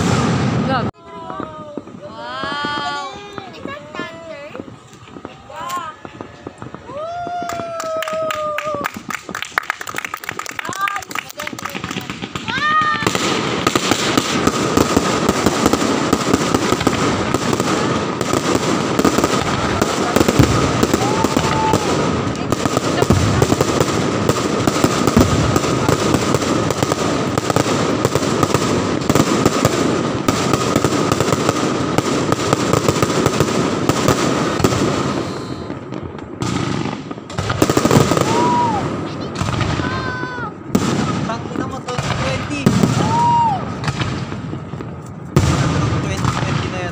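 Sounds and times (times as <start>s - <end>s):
fireworks and firecrackers banging: 0.0s - 46.9s.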